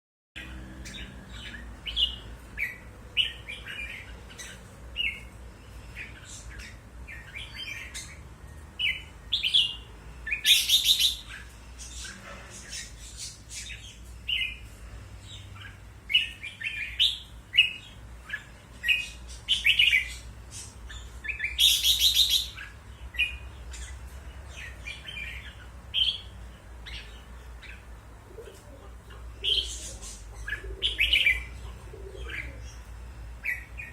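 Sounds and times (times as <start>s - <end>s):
bird singing chirpy phrases: 0.4s - 33.9s
steady low hum: 0.4s - 33.9s.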